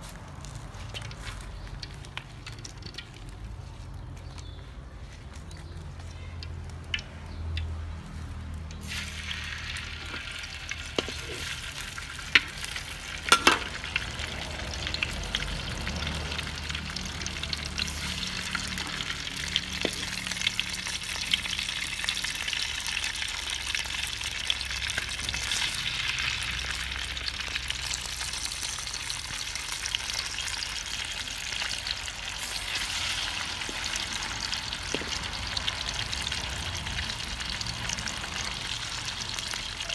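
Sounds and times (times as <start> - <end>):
fish sizzling in oil: 7.4 - 39.9.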